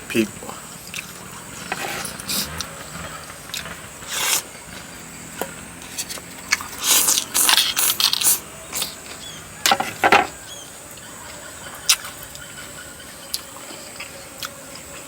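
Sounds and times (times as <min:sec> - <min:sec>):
noisy chewing: 0:00.0 - 0:15.0.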